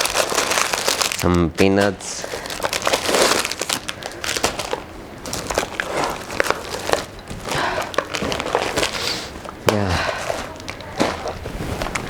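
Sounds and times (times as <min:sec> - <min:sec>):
plastic snack packets crinkling: 0:00.0 - 0:12.0.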